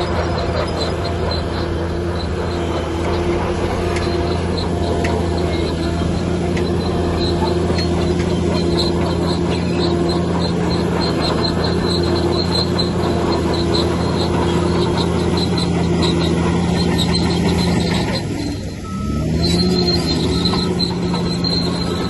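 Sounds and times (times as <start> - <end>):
heavy diesel engine running: 0.0 - 22.0
short high squeaks: 0.0 - 22.0.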